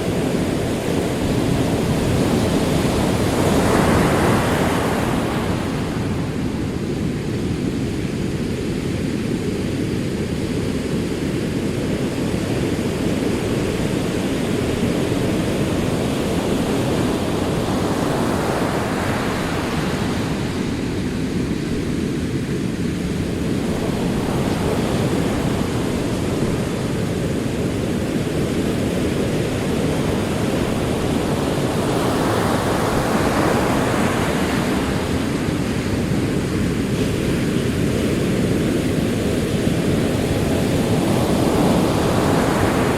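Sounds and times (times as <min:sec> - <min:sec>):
ocean waves rolling: 0:00.0 - 0:42.9
wave breaking and washing in: 0:00.0 - 0:42.9.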